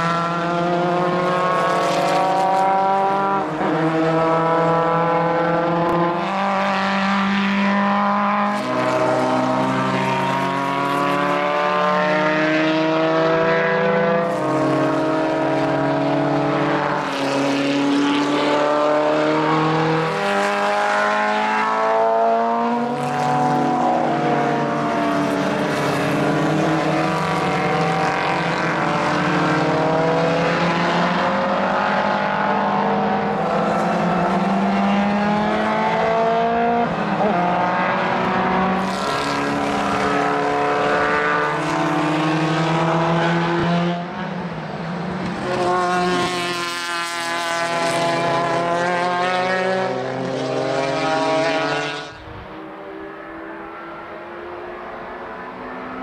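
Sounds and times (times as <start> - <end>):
racing car engines passing: 0.0 - 56.0.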